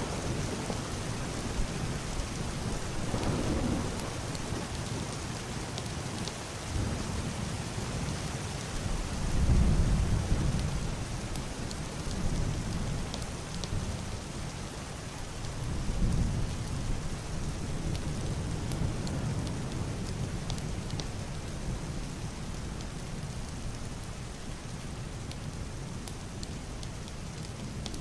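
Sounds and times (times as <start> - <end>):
heavy rain on a roof: 0.0 - 28.0.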